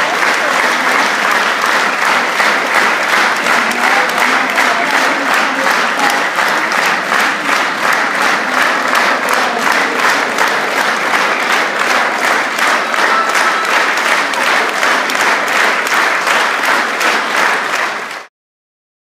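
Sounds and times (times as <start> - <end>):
audience applauding: 0.0 - 18.3.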